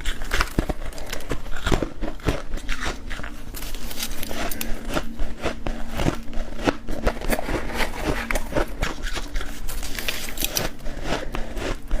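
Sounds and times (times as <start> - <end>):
frost being chewed: 0.0 - 12.0.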